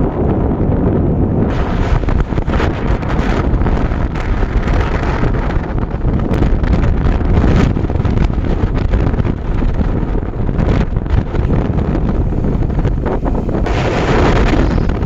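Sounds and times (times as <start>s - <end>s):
vehicle rumble on road: 0.0s - 15.0s
wind buffeting microphone: 0.0s - 15.0s.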